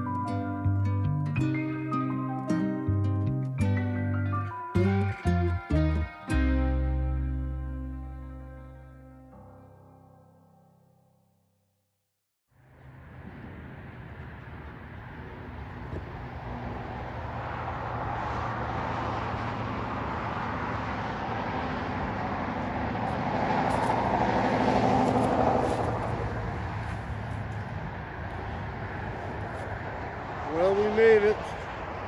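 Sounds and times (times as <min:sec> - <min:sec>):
road noise: 0:00.0 - 0:09.3, 0:12.5 - 0:32.0
vehicle engine hum: 0:00.0 - 0:09.3, 0:12.6 - 0:32.0.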